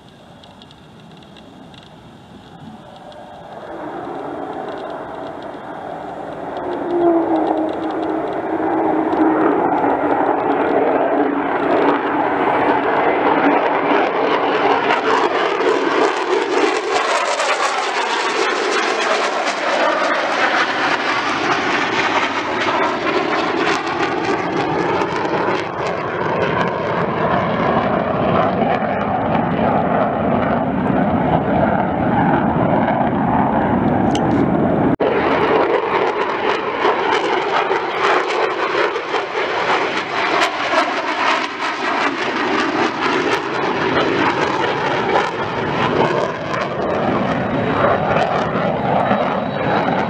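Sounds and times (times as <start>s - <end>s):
fighter jet flying past: 0.0s - 50.0s.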